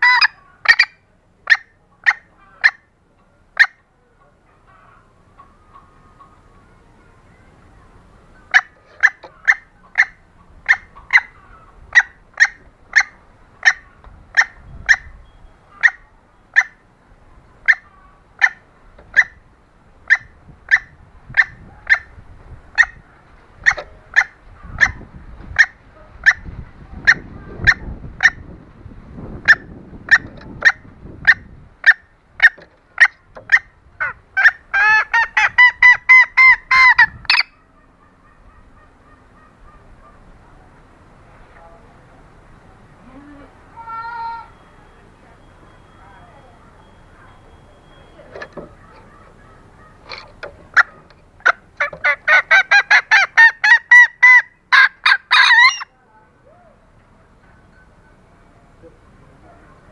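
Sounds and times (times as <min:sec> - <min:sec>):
junglefowl calling: 0:00.0 - 0:07.4, 0:08.2 - 0:28.6, 0:29.2 - 0:40.9, 0:42.8 - 0:56.9.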